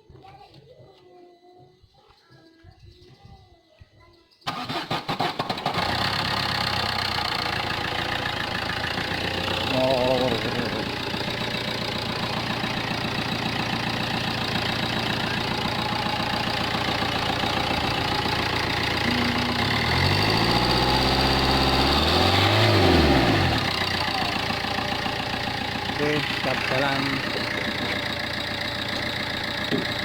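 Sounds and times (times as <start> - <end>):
diesel engine idling and revving: 4.5 - 30.0.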